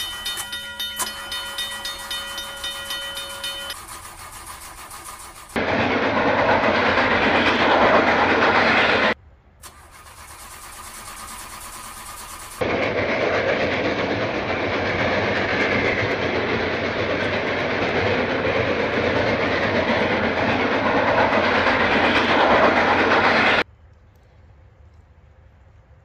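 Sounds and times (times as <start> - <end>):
train running on rails: 0.0 - 23.7.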